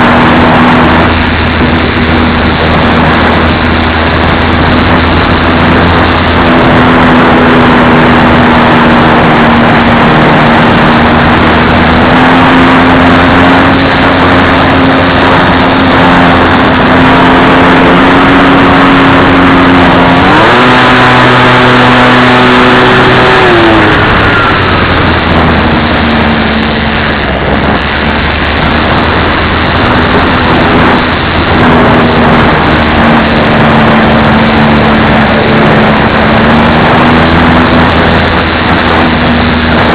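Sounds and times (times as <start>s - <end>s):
model airplane motor and propeller: 0.0s - 39.9s
rushing noise: 0.0s - 39.9s.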